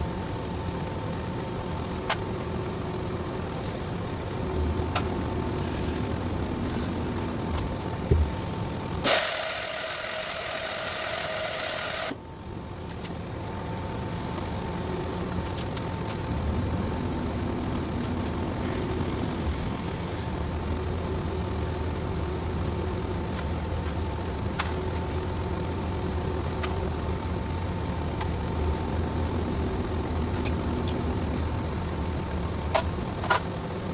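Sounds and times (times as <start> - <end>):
low machinery hum: 0.0 - 33.9.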